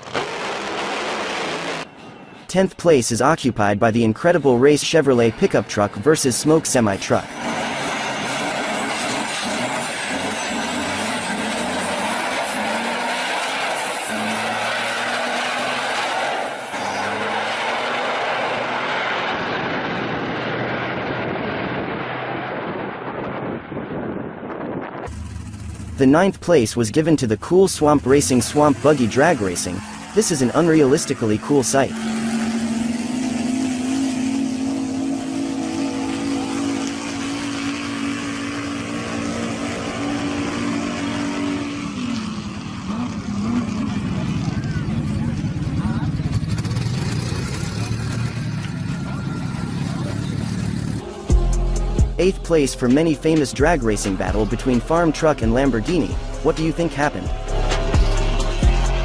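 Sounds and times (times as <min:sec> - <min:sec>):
truck engines racing: 0:00.0 - 0:59.0.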